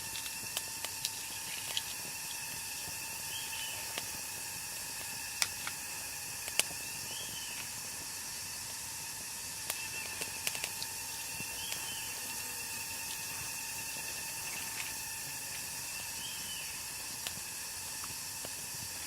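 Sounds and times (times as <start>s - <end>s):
sharp pops and crackles: 0.0s - 12.3s, 13.0s - 19.0s
eggs sizzling on hot stone: 0.0s - 19.0s.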